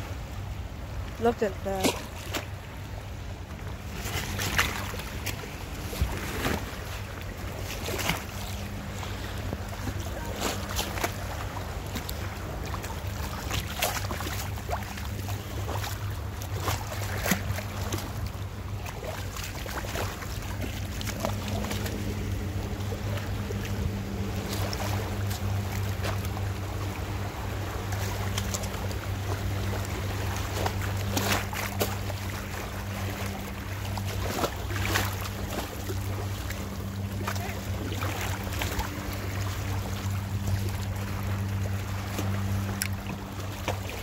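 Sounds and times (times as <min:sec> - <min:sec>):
low engine hum: 0:00.0 - 0:44.0.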